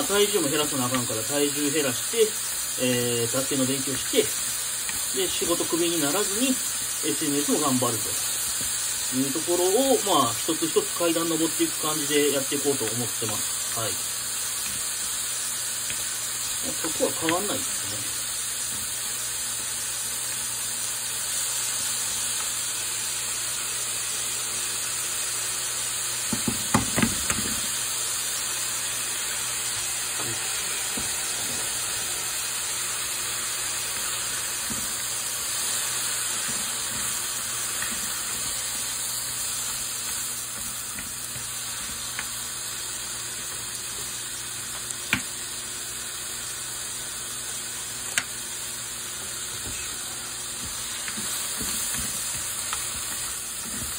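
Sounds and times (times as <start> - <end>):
stir-fry sizzling in a pan: 0.0 - 53.9.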